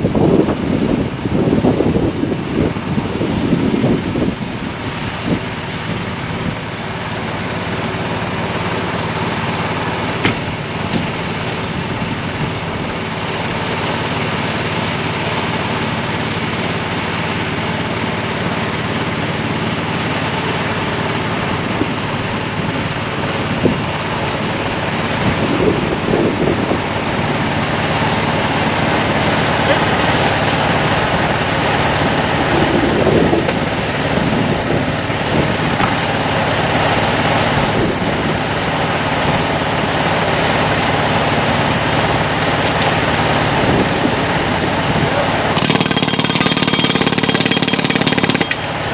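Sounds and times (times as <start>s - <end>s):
engine idling: 0.0s - 48.9s
vehicle pulling slowly forward: 2.4s - 48.9s.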